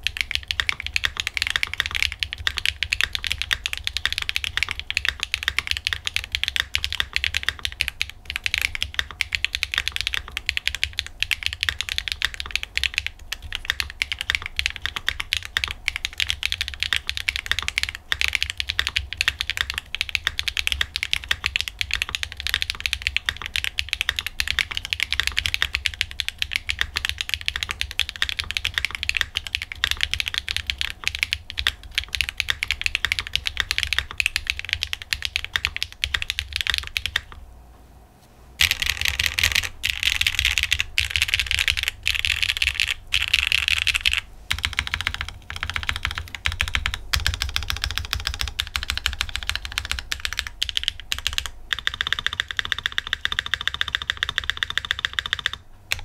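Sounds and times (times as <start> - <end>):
fast typing on mechanical keyboard: 0.0 - 37.4, 38.6 - 56.0.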